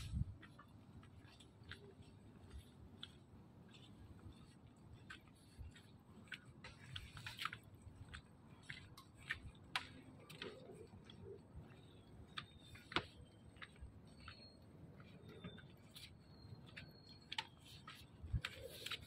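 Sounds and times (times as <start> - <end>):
footsteps on wooden boardwalk: 0.0 - 19.0.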